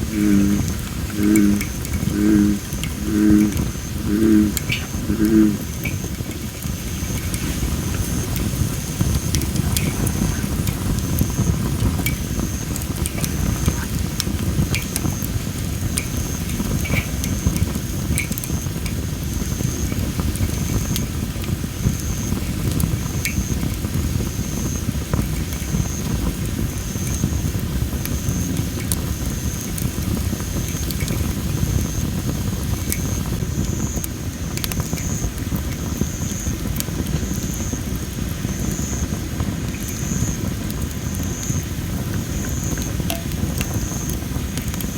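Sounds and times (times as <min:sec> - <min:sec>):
firewood crackling and popping: 0:00.0 - 0:44.9
low fire rumble: 0:00.0 - 0:44.9.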